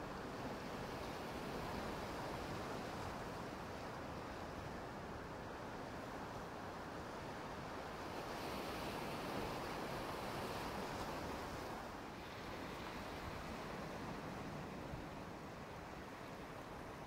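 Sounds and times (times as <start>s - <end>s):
ocean surf on rocky shore: 0.1s - 17.0s.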